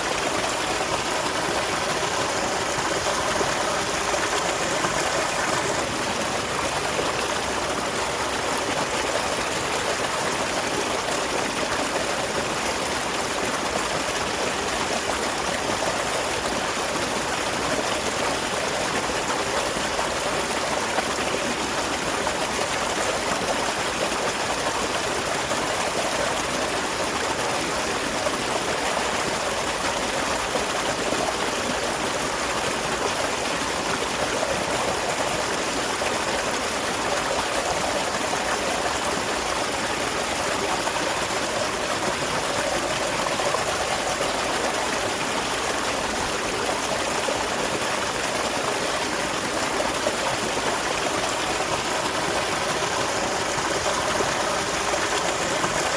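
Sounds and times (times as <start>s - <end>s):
small waterfall splashing: 0.0s - 55.9s
stream running: 0.0s - 55.9s.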